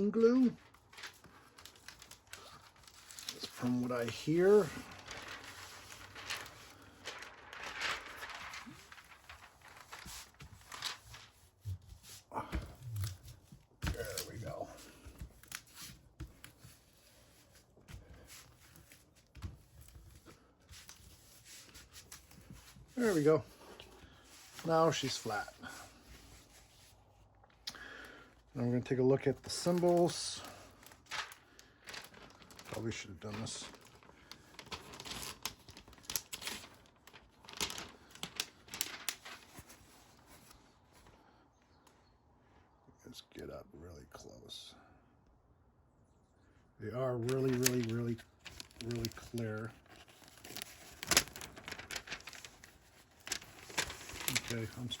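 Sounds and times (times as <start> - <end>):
plastic film crinkling: 0.0 - 28.0, 28.9 - 41.2, 47.0 - 55.0
hands rustling plastic cover: 0.1 - 28.2, 28.9 - 41.2, 47.0 - 55.0.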